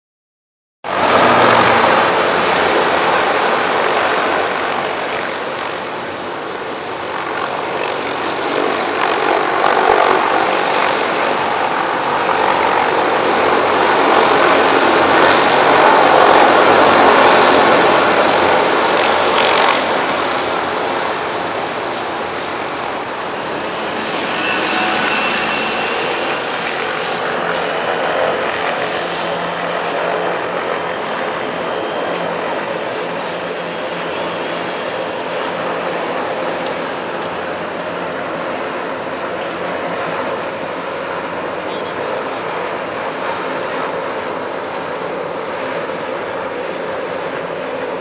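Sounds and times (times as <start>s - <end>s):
helicopters passing overhead: 0.8s - 48.0s.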